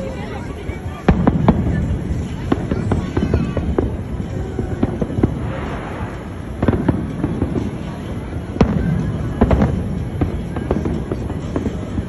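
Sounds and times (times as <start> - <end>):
fireworks booming: 0.0 - 12.0
fireworks hissing crackle: 0.0 - 12.0.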